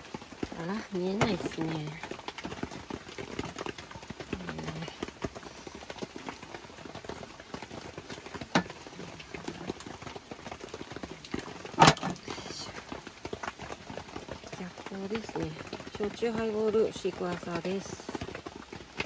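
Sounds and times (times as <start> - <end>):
rain pattering on a tent: 0.0 - 19.0.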